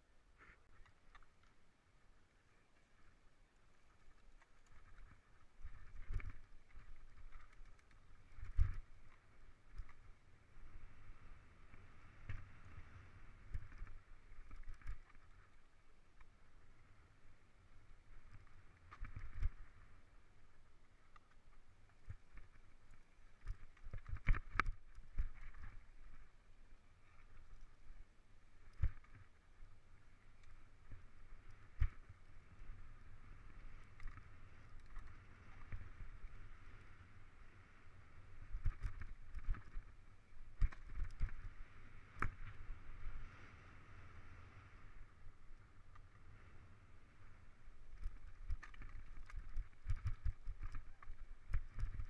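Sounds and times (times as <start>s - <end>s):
bike tyre and wind rumble: 3.9s - 52.0s.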